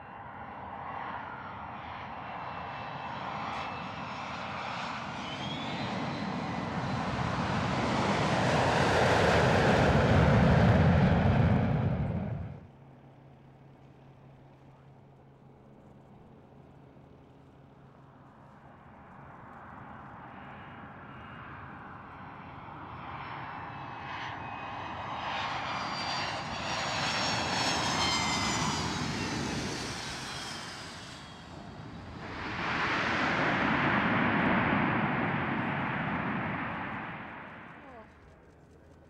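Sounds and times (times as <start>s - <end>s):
airplane passing: 0.0s - 39.0s.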